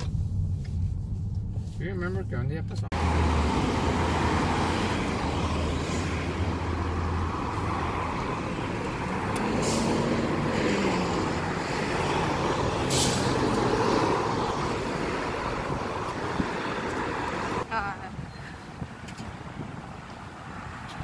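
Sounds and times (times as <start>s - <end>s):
cars and buses passing: 2.5s - 21.0s.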